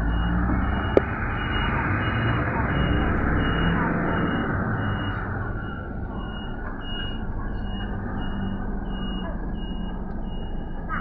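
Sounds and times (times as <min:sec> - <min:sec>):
city traffic rumble: 0:00.0 - 0:11.0
electronic warning beeps: 0:00.0 - 0:11.0.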